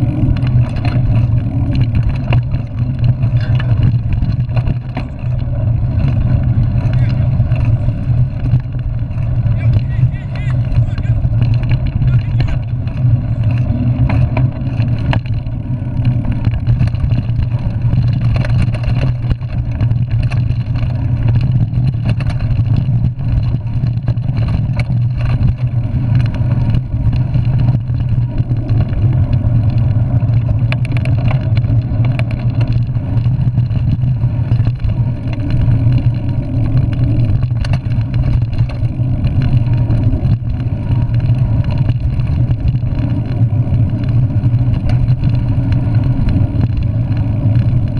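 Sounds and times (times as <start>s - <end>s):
mountain bike rumble on dirt trail: 0.0s - 47.9s
rattles and knocks from bumps: 0.0s - 47.9s.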